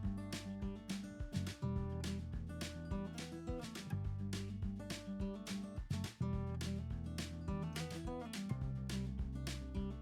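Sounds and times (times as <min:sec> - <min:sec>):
acoustic guitar music with beat: 0:00.0 - 0:10.0.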